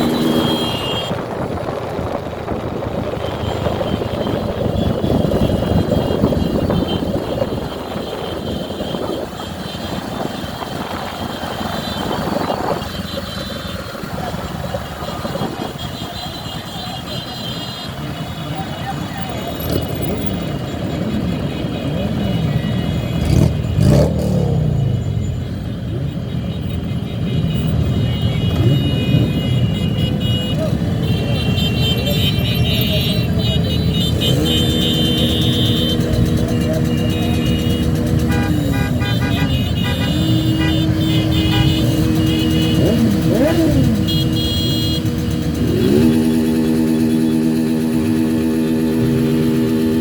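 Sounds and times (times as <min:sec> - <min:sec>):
motorcycle engines revving: 0:00.0 - 0:50.0
vehicle horns: 0:00.0 - 0:50.0.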